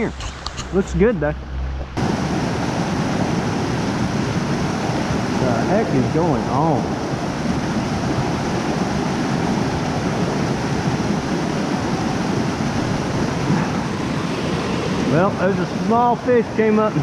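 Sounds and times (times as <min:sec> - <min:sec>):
stream running over rocks: 0:01.0 - 0:17.0.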